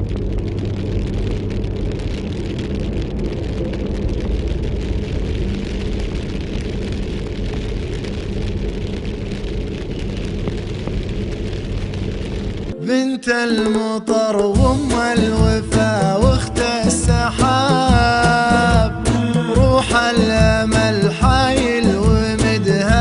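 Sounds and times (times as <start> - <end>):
rain falling: 0.0 - 12.7, 14.5 - 23.0
low rumble: 0.0 - 14.0, 14.6 - 23.0.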